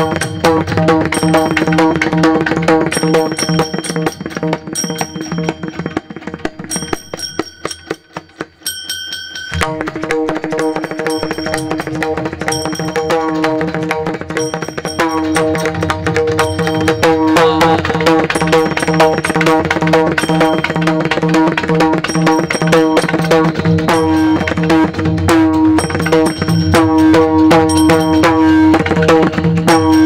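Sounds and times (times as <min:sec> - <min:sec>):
hand drum rhythm: 0:00.0 - 0:30.0
sustained held notes: 0:02.9 - 0:30.0.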